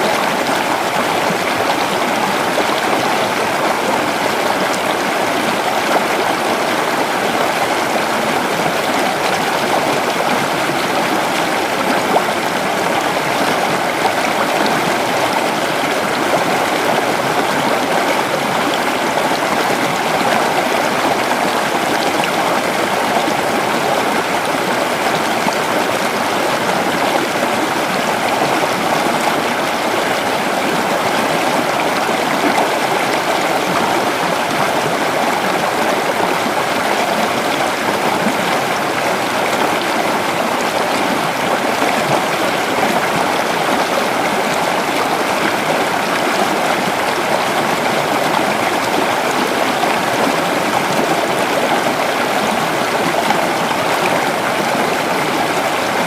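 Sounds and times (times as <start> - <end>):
creek running over rocks: 0.0 - 56.0.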